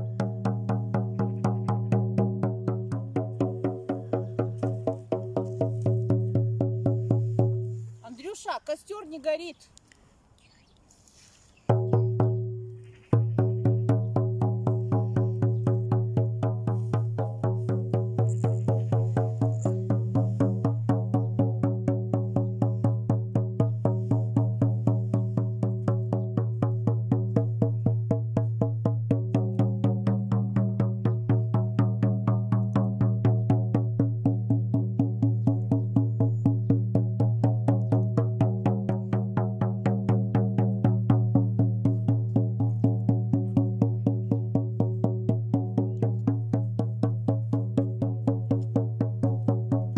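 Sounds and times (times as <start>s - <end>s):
even drumbeat: 0.0s - 7.9s, 11.6s - 49.9s.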